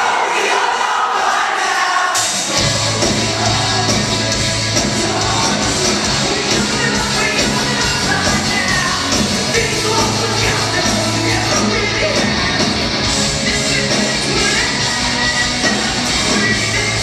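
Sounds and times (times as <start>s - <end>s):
person singing and yelling: 0.0s - 17.0s
rock band playing live: 2.1s - 17.0s.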